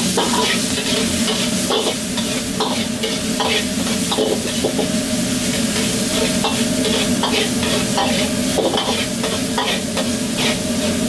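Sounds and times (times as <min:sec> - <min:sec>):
gas burner roar: 0:00.0 - 0:11.0
meat sizzling in a wok: 0:00.0 - 0:11.0
metal ladle scraping a pan: 0:00.2 - 0:04.9, 0:05.7 - 0:11.0.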